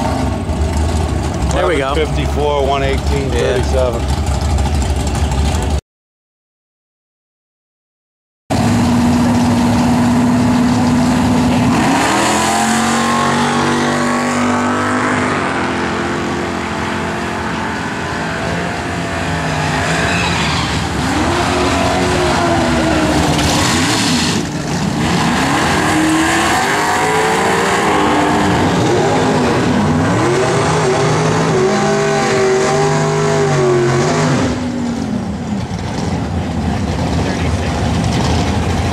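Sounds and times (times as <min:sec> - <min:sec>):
truck engines revving: 0:00.0 - 0:05.8, 0:08.5 - 0:38.9.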